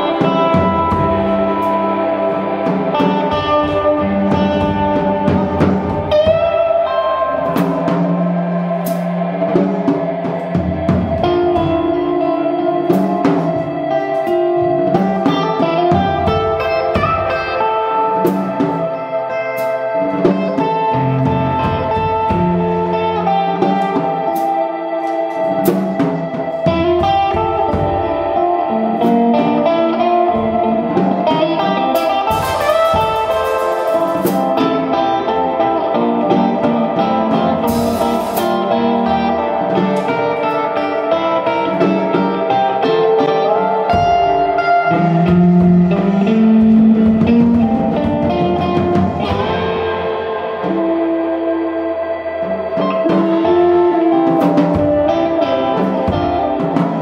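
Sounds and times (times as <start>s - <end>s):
drum kit: 0.0s - 57.0s
electric guitars: 0.0s - 57.0s
piano: 0.0s - 57.0s.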